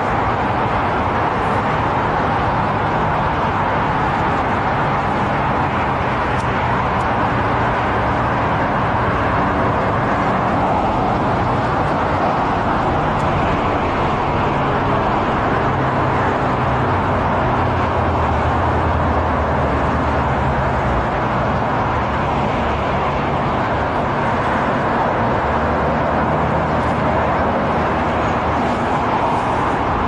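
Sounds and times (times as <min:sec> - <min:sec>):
distant road traffic din: 0:00.0 - 0:30.0.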